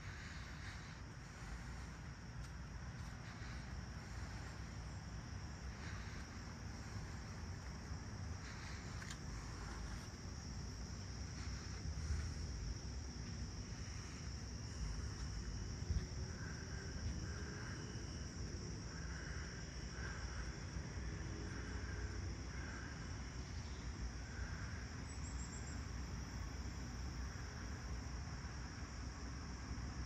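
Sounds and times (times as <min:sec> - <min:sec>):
low steady rumble: 0:00.0 - 0:24.9
crickets chirping: 0:00.0 - 0:30.0.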